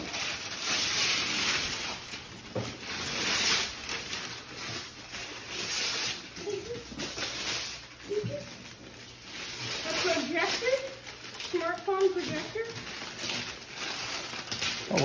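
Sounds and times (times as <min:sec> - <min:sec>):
wrapping paper rustling and tearing: 0:00.0 - 0:15.0.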